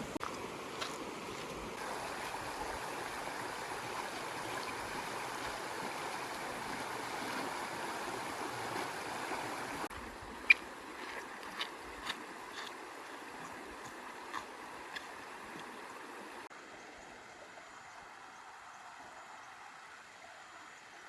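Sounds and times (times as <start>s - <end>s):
stream running water: 0.0s - 21.0s.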